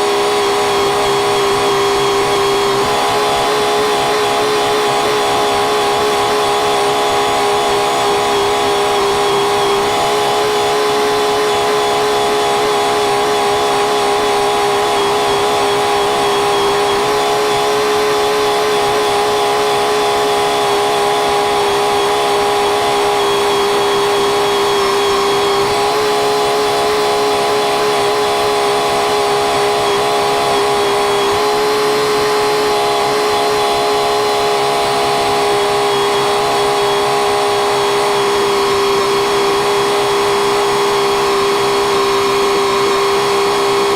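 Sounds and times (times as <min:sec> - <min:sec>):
tractor engine running: 0:00.0 - 0:43.3.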